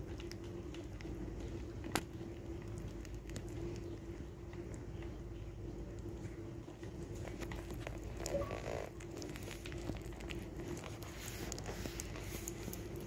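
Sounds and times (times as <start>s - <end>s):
faint steady hum: 0.0s - 13.0s
rabbit chewing: 0.0s - 13.0s.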